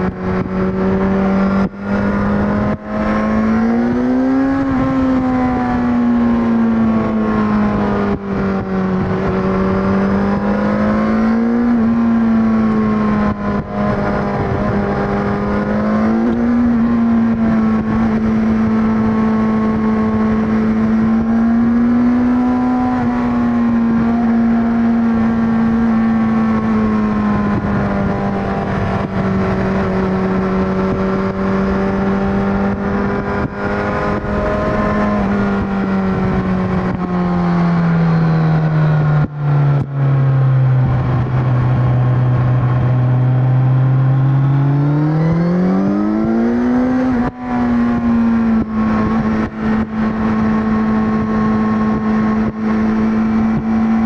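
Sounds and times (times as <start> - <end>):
motorcycle engine and exhaust cruising: 0.0 - 54.0
wind noise on microphone: 0.0 - 54.0.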